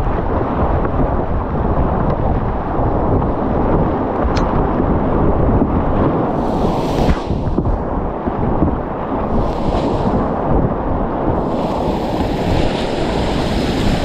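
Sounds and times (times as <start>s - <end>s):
whitewater rushing and rumbling: 0.0s - 14.0s.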